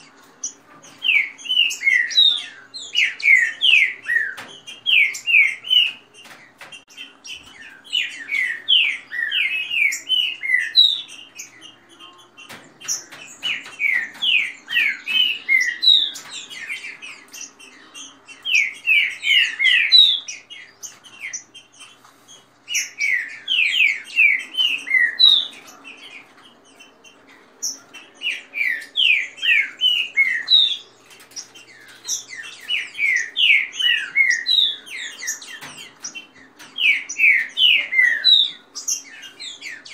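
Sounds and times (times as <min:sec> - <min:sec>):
bird whistling song: 0:00.0 - 0:39.9
faint high bird chirps: 0:00.0 - 0:39.9.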